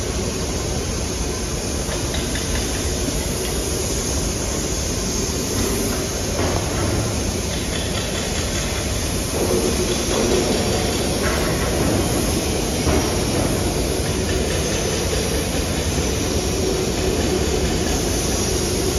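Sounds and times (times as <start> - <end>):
factory machinery rumble: 0.0 - 18.9.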